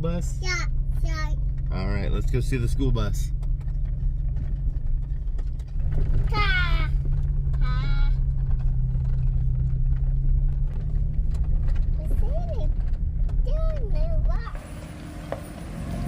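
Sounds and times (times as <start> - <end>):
road rumble: 0.0 - 16.0
vehicle engine hum: 0.0 - 16.0.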